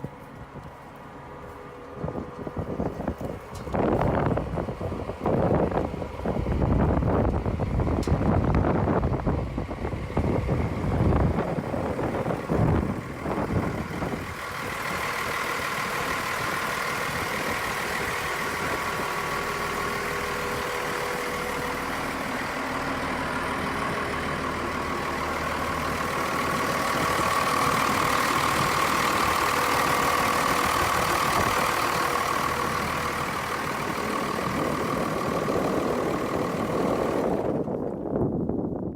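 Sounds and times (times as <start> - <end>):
excavator engine running: 0.0 - 38.4.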